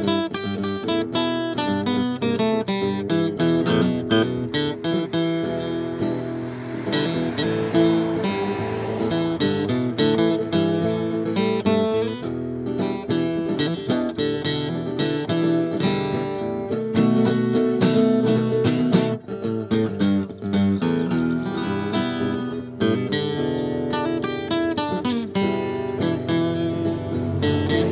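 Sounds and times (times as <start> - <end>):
acoustic guitar playing: 0.0 - 27.9.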